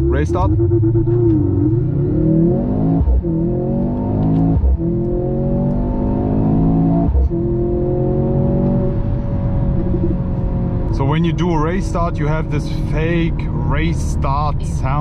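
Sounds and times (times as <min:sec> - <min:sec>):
car engine accelerating: 0:00.0 - 0:15.0
synthetic engine sound in cabin: 0:00.0 - 0:15.0.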